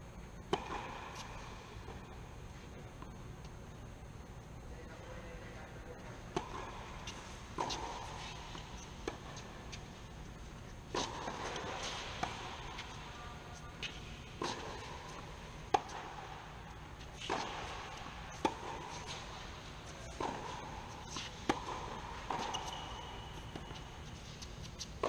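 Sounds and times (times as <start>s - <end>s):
tennis ball hits and bounces: 0.5s - 2.2s, 6.3s - 25.0s.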